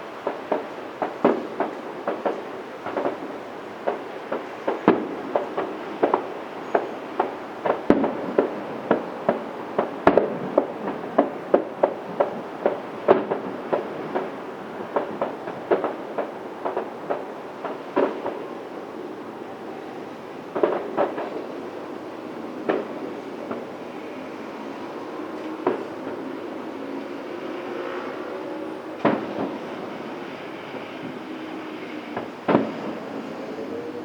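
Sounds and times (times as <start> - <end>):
fireworks shells bursting: 0.0 - 19.1, 20.0 - 34.0.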